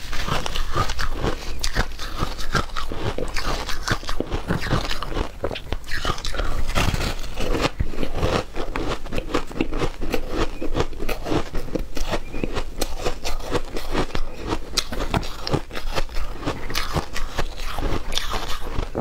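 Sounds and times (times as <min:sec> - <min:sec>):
chewing crunchy ice: 0:00.0 - 0:19.0.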